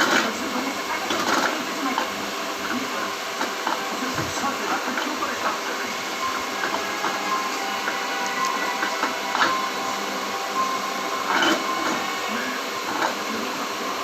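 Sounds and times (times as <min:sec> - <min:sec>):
meat mincer whirring: 0:00.0 - 0:14.0.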